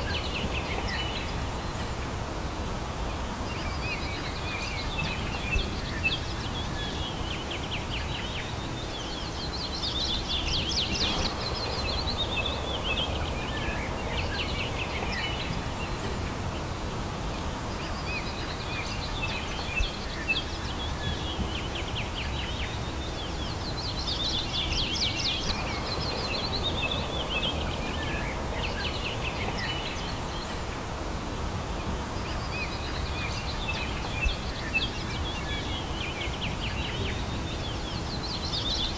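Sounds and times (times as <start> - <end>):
low background rumble: 0.0 - 38.8
songbirds chirping: 0.0 - 38.9.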